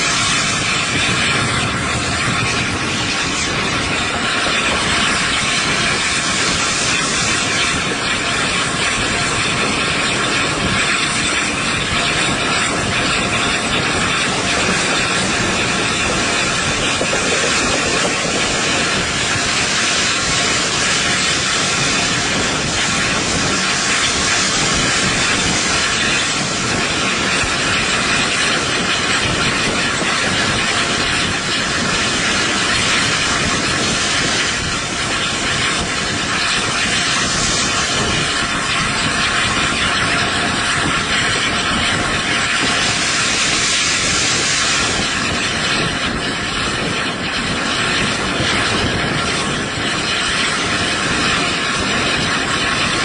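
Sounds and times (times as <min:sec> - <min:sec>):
steam locomotive hissing: 0:00.0 - 0:53.0
train wheel and rail noise: 0:00.0 - 0:53.0
wind rushing: 0:00.0 - 0:53.0.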